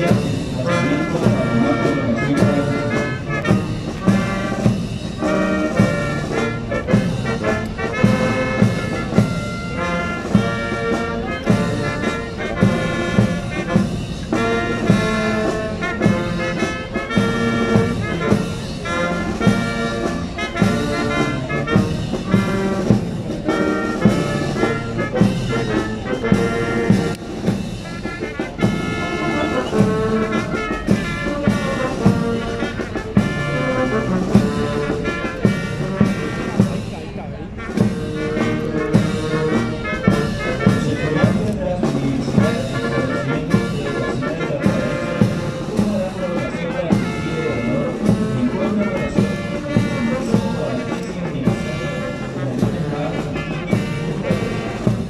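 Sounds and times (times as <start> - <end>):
brass melody: 0.0 - 55.0.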